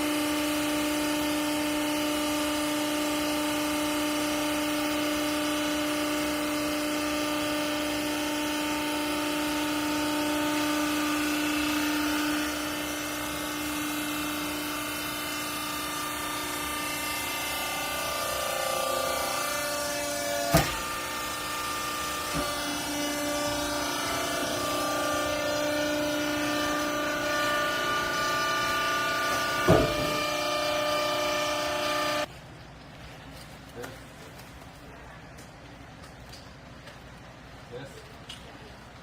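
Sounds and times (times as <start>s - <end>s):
hydraulic motor whining: 0.0s - 32.3s.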